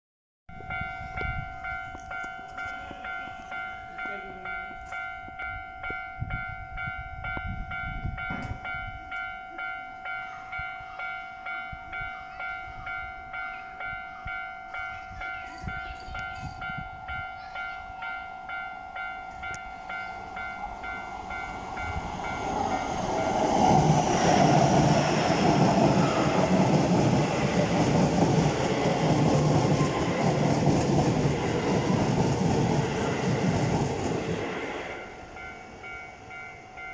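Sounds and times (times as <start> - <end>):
level crossing warning bell: 0.5 - 36.9
train passing: 0.6 - 36.9.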